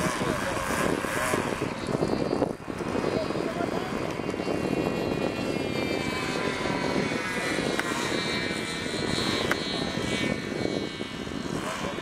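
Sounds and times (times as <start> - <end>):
model airplane engine buzzing: 0.0 - 12.0.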